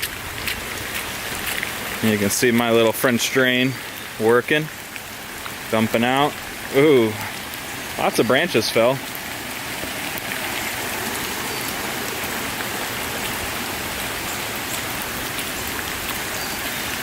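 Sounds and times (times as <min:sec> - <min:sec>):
pouring rain: 0:00.0 - 0:17.0.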